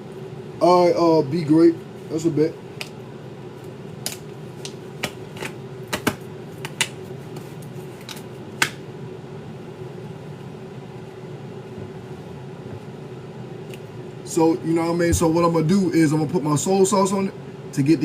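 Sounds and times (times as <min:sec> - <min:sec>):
fan-like hum with held tone: 0:00.0 - 0:18.0.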